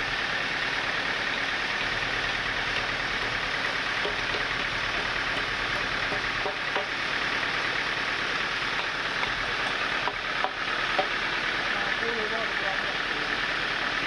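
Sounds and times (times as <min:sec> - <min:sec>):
sawmill machinery running: 0:00.0 - 0:14.0.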